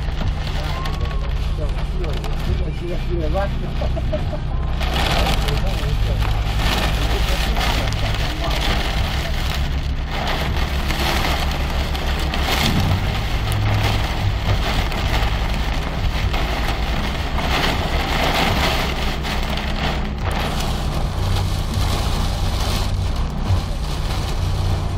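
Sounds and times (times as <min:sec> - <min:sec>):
car low hum: 0:00.0 - 0:24.9
heavy rain on car roof: 0:00.0 - 0:24.9.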